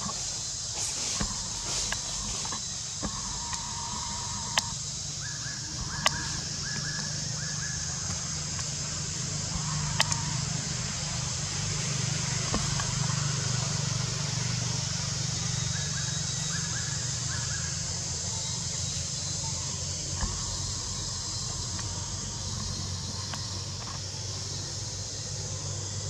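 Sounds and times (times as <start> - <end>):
high insect drone: 0.0 - 26.0
low hum: 0.0 - 26.0.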